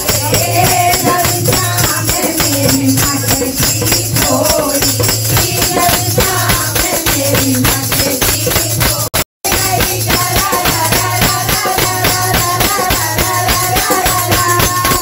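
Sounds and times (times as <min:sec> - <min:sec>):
upbeat music with fast percussion: 0:00.0 - 0:15.0.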